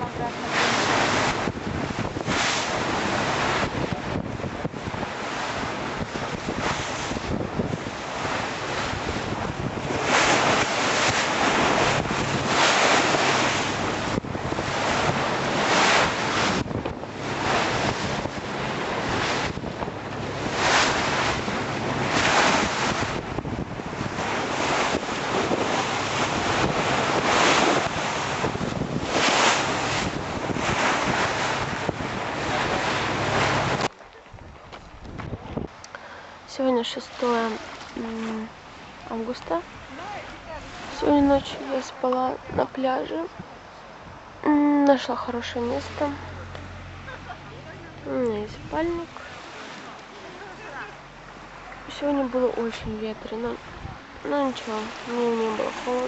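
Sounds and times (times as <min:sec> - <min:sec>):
wind buffeting microphone: 0:00.0 - 0:35.9, 0:36.8 - 0:56.0
low engine hum: 0:00.0 - 0:36.5, 0:37.1 - 0:56.0
water splashing along boat hull: 0:00.0 - 0:56.0.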